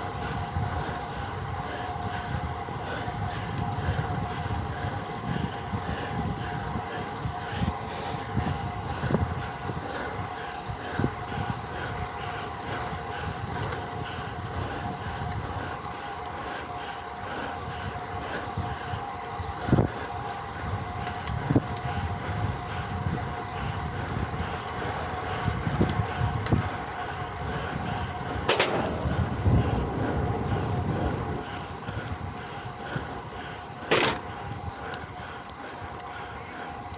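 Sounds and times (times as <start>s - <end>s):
pulsing steady whir: 0.0s - 36.9s
wind buffeting microphone: 0.0s - 36.9s.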